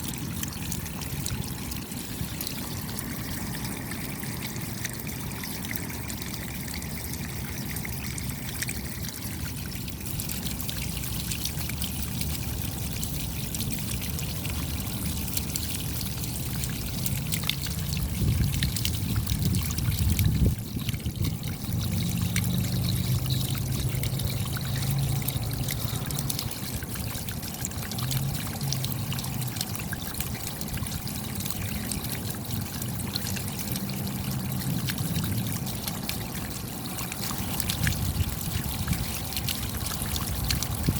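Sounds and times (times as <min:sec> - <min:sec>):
low rush of water: 0:00.0 - 0:40.9
raindrops ticking: 0:00.0 - 0:40.9
water trickling and pouring: 0:00.0 - 0:40.9.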